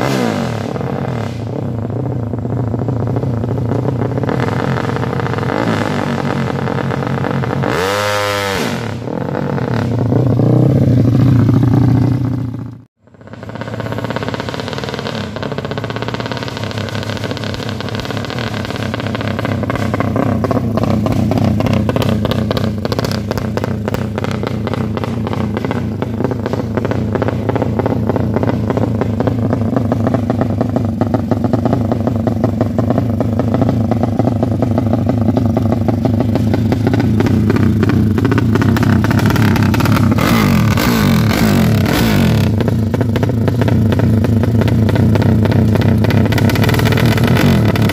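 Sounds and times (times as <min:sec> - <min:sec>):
race engine revving: 0:00.0 - 0:12.1, 0:13.3 - 0:32.0, 0:32.8 - 0:47.9.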